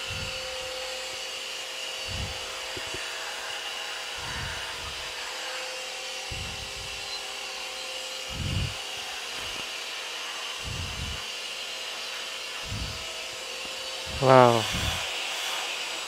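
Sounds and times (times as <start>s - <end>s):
vacuum cleaner whining: 0.0s - 16.0s.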